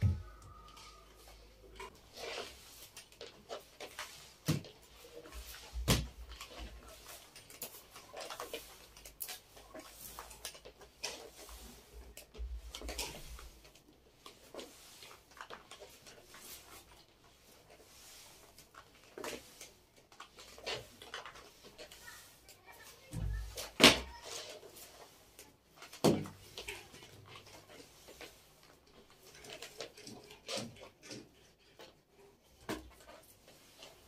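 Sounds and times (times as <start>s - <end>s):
rubbing and handling noise: 0.0s - 34.0s.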